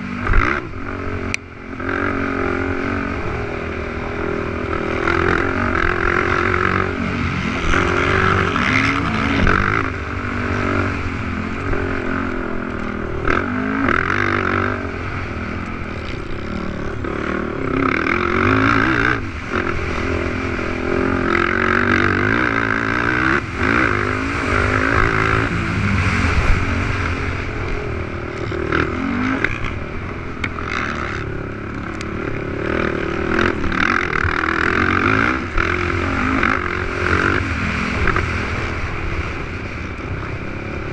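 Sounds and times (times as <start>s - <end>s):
quad engines revving: 0.0s - 40.9s.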